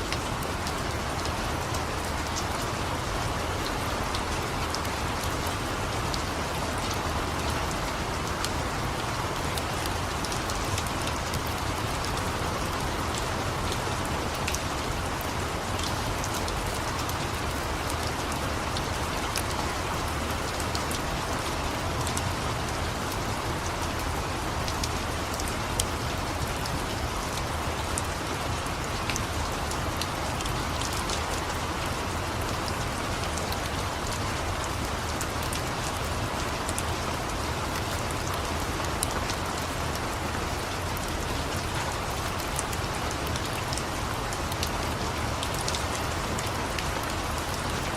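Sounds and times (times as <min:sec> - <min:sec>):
steady rain hissing: 0:00.0 - 0:47.9.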